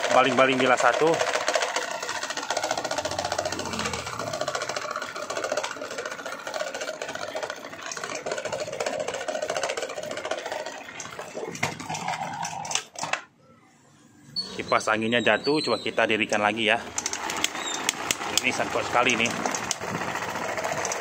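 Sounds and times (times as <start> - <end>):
unbalanced fan rattling: 0.0 - 13.2, 15.9 - 21.0.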